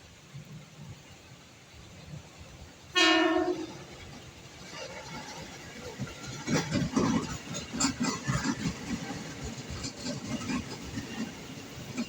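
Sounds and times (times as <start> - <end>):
train rumble: 0.0 - 12.0
train knocking and clattering on tracks: 1.8 - 12.0.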